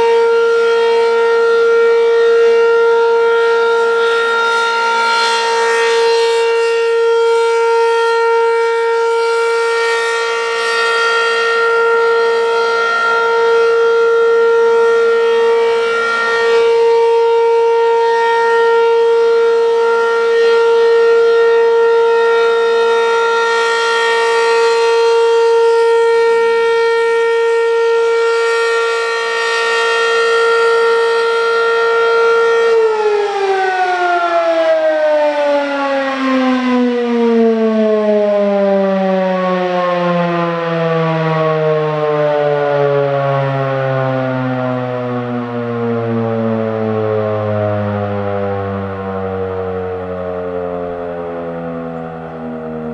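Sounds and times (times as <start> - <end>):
warning siren steady tone: 0.0 - 52.9.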